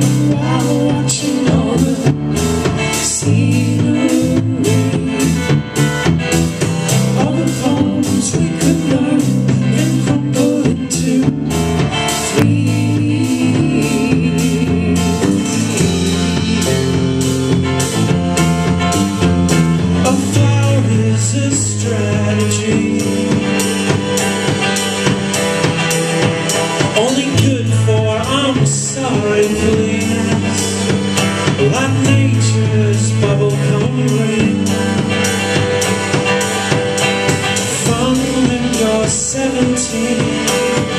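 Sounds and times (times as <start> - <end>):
folk rock band playing live: 0.0 - 40.9.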